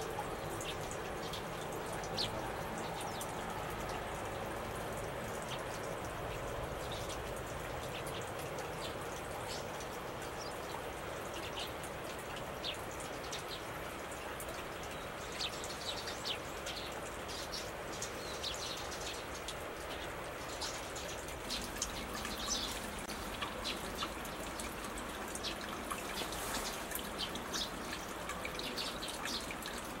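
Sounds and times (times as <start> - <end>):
small birds chirping: 0.0 - 11.9, 14.5 - 30.0
steady outdoor hiss: 0.0 - 30.0.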